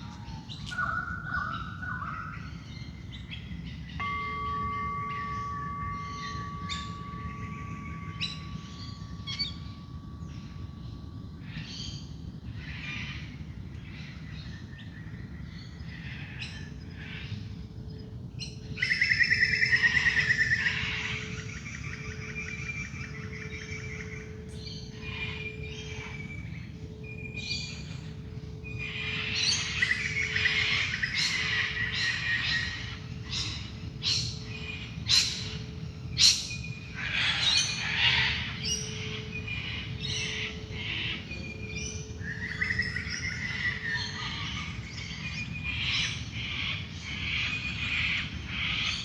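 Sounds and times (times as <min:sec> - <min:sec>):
birds calling and singing: 0:00.0 - 0:49.0
singing bowl ringing: 0:02.4 - 0:49.0.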